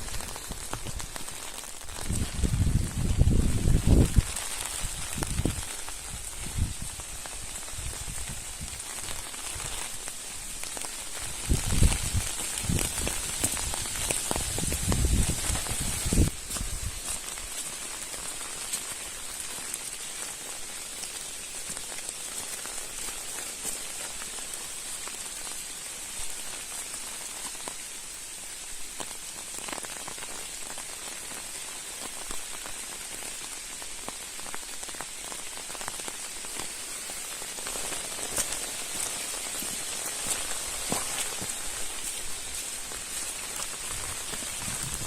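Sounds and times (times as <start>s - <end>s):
raindrop ticks: 0.0s - 45.0s
steady rain hiss: 0.0s - 45.0s.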